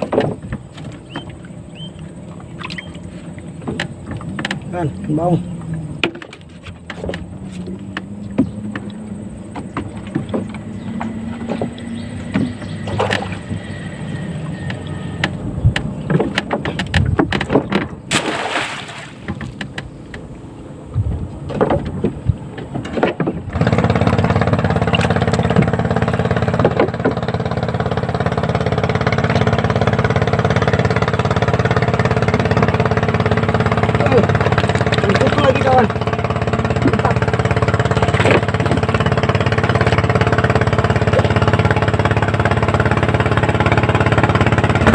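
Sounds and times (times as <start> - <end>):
small boat engine running: 0.0 - 44.9.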